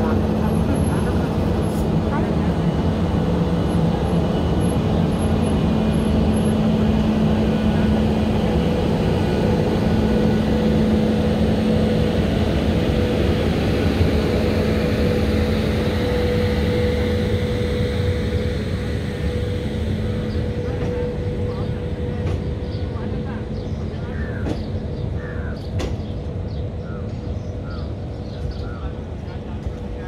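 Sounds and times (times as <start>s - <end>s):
electric locomotive humming: 0.0s - 30.0s.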